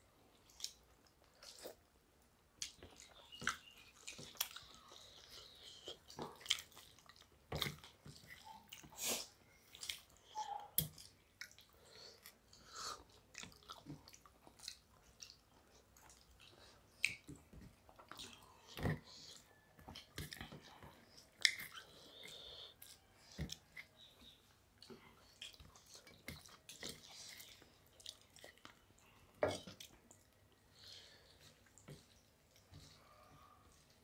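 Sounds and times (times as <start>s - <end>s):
wet chewing and lip smacks: 0.3s - 1.9s, 2.6s - 30.6s.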